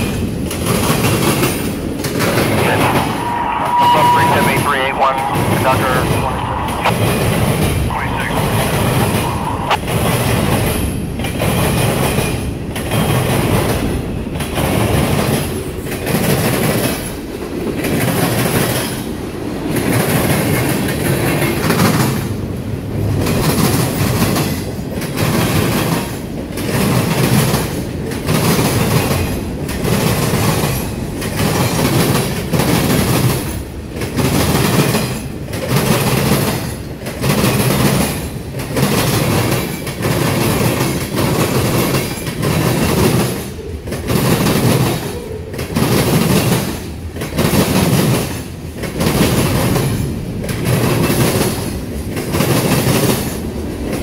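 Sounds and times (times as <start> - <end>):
train wheels clattering over crossing: 0.0 - 4.1, 8.5 - 54.0.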